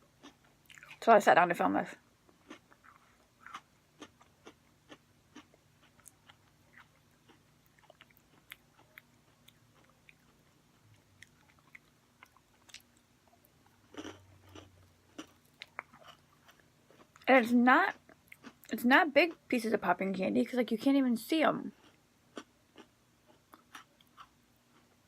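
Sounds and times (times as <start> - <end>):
chewing cookies with crunches: 0.0 - 1.1, 2.2 - 19.5, 21.6 - 25.0.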